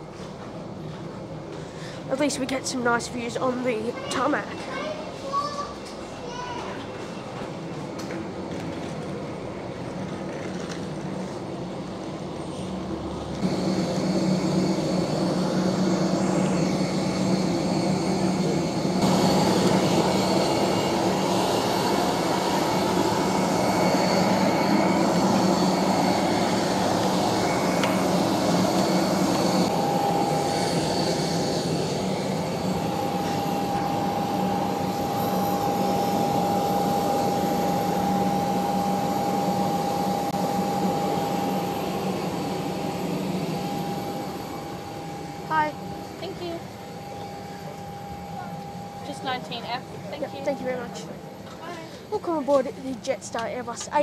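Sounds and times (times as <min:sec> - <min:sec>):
jet engine whine: 0:00.0 - 0:54.0.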